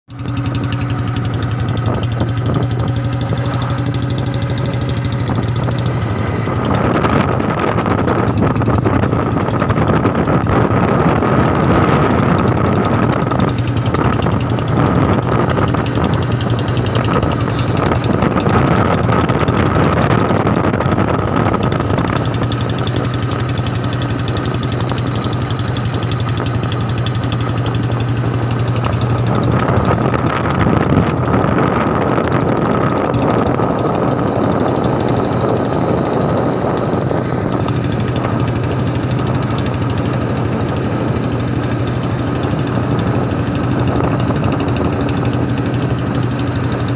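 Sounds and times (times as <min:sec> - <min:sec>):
motorcycle engine thumping: 0:00.1 - 0:46.9.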